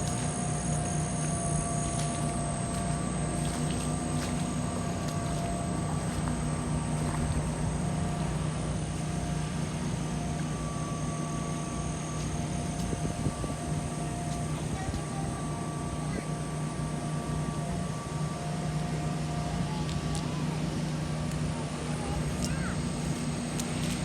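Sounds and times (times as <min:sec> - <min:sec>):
steady engine drone: 0:00.0 - 0:24.0.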